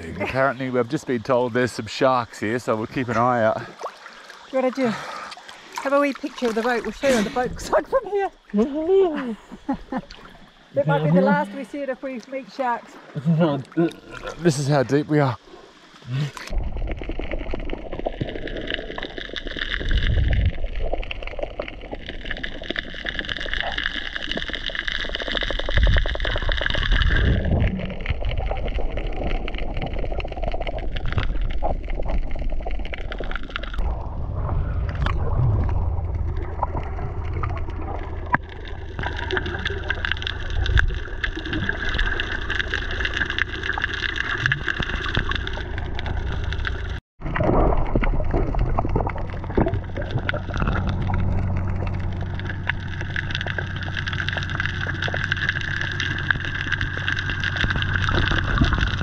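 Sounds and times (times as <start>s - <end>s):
boat engines humming underwater: 0.0s - 59.0s
water swishing and gurgling: 0.0s - 59.0s.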